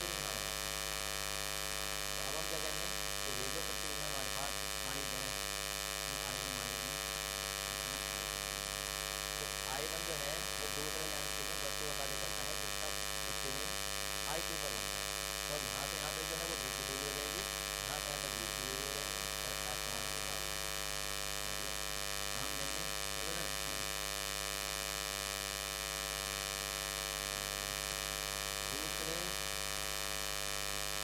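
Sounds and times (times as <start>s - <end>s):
electrical buzz from lighting: 0.0s - 31.0s.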